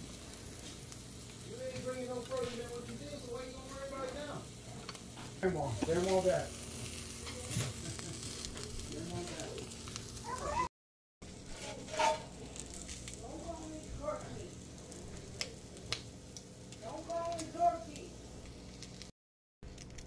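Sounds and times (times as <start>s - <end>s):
food sizzling in a frying pan: 0.0s - 19.1s.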